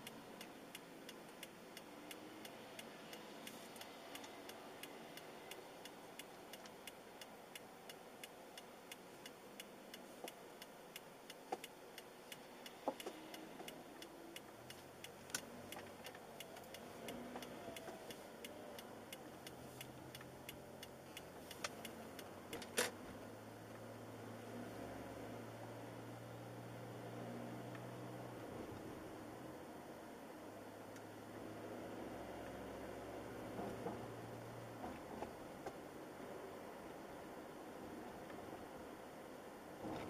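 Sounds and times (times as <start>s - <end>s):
engine and road hum: 0.0s - 40.0s
turn signal ticking: 0.0s - 40.0s.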